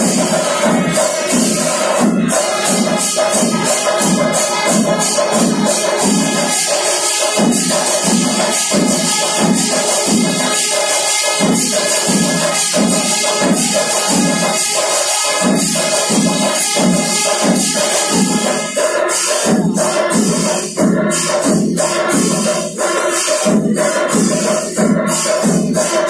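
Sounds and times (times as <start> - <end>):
drums beating steady rhythm: 0.0 - 26.0
hand cymbals: 0.0 - 26.0.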